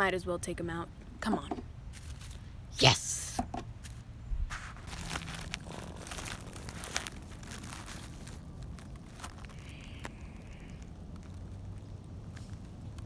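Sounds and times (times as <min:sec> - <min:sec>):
low steady hum: 0:00.0 - 0:13.0
crinkling and rustling handling: 0:01.0 - 0:02.5, 0:03.3 - 0:13.0.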